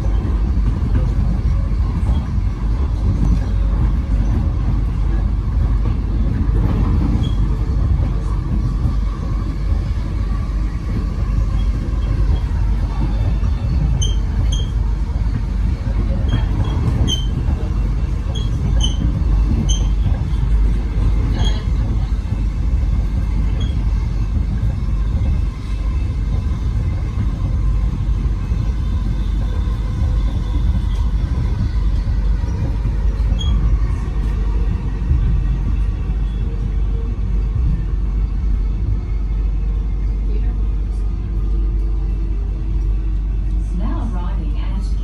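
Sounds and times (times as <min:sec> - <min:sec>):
electric train rumbling: 0:00.0 - 0:45.0.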